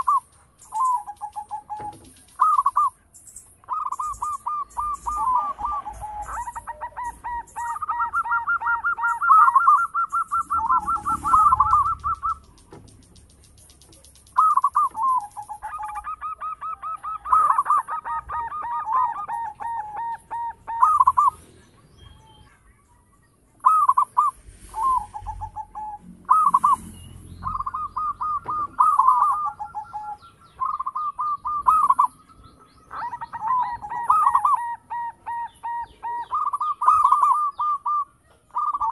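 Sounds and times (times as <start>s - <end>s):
dove cooing: 0.0s - 22.8s, 23.6s - 38.9s.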